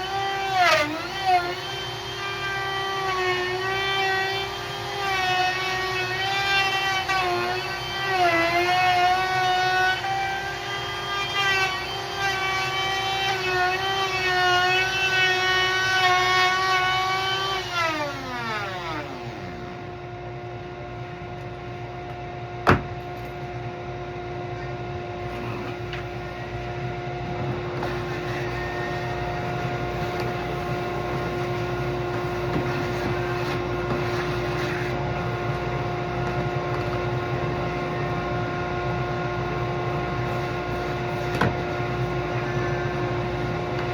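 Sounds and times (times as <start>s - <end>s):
steady hum: 0.0s - 43.9s.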